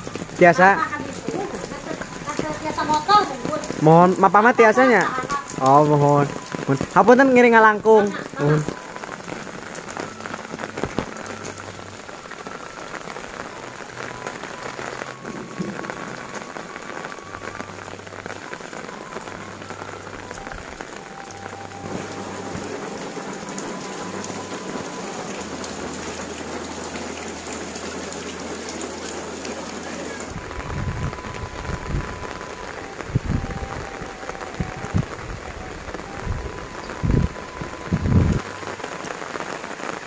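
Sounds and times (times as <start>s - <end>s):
rain falling on roofs: 0.0s - 40.0s
water running off roof edges: 0.0s - 40.0s.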